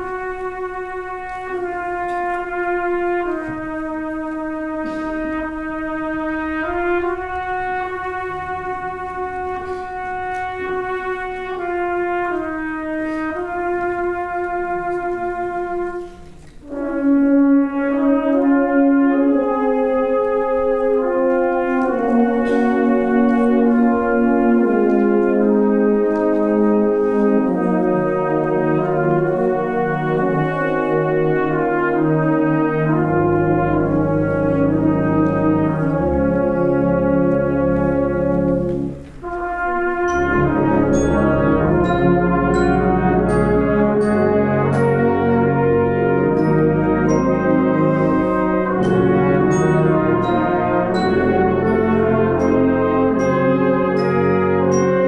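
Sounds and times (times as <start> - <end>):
brass band playing chords: 0.0 - 55.0.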